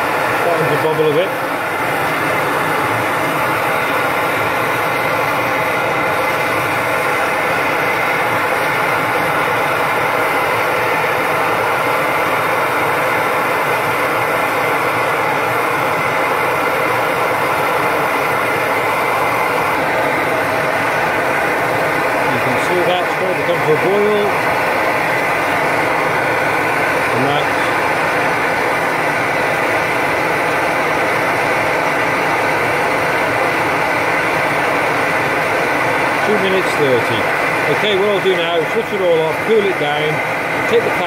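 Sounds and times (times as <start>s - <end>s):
stove burner roaring: 0.0s - 41.0s.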